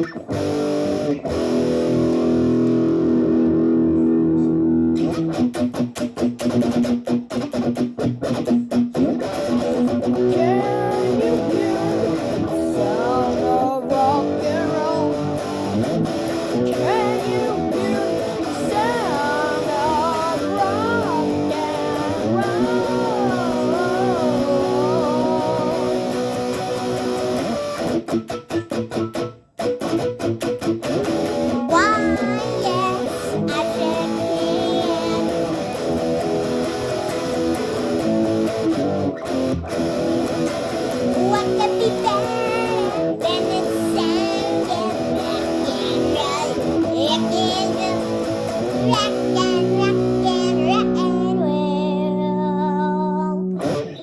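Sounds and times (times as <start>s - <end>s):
rock band playing: 0.0s - 51.6s.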